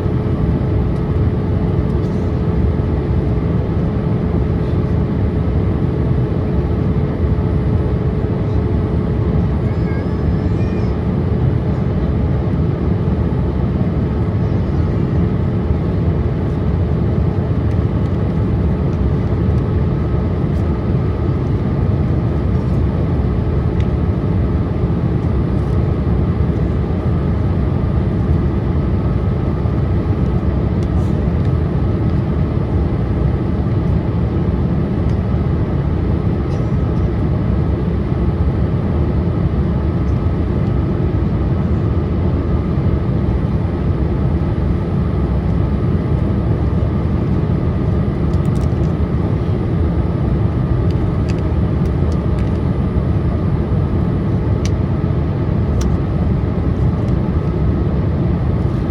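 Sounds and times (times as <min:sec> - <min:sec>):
aircraft engine hum: 0:00.0 - 0:58.9.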